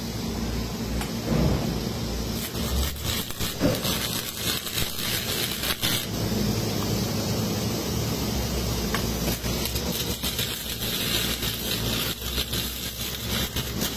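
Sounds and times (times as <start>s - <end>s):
arc welding crackle and sizzle: 0.0s - 13.9s
steady low hum: 0.0s - 13.9s.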